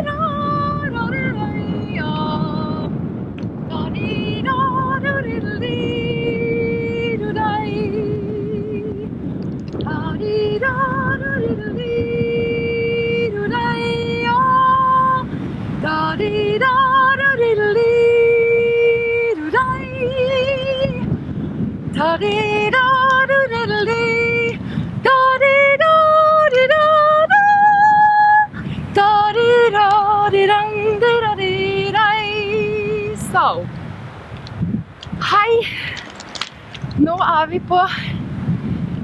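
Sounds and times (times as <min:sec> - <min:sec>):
woman singing unaccompanied: 0:00.0 - 0:09.2, 0:09.8 - 0:21.2, 0:21.9 - 0:33.7, 0:35.1 - 0:35.9, 0:36.9 - 0:38.2.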